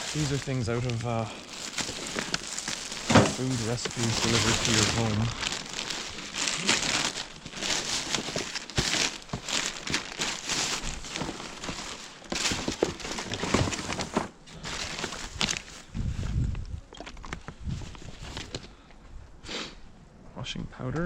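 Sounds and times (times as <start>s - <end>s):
plastic bags rustling: 0.0s - 18.8s.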